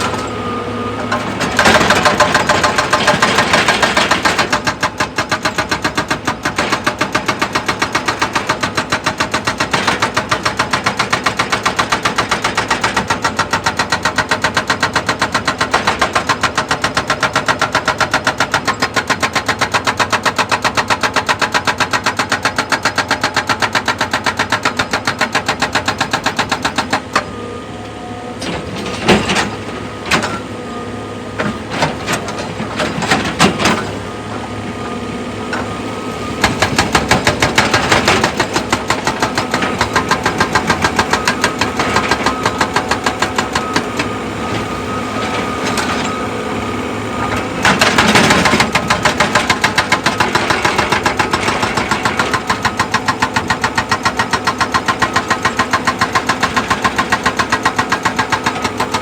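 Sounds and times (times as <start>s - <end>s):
heavy machinery pounding: 0.0s - 27.4s, 28.4s - 30.5s, 31.2s - 59.0s
machinery clunks and knocks: 0.0s - 30.6s, 31.3s - 59.0s.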